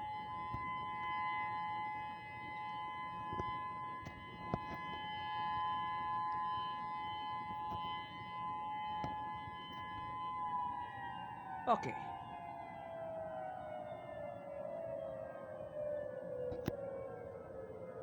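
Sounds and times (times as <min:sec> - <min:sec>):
two-note warning siren: 0:00.0 - 0:18.0.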